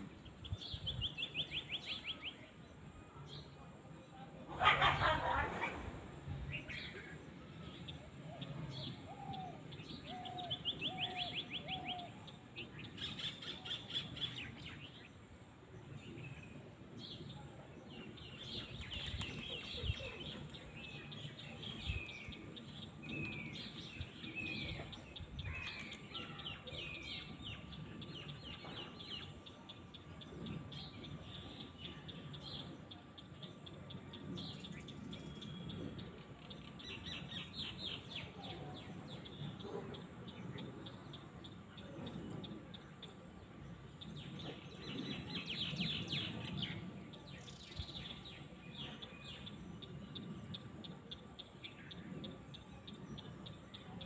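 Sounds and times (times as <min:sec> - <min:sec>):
faint outdoor background: 0:00.0 - 0:54.0.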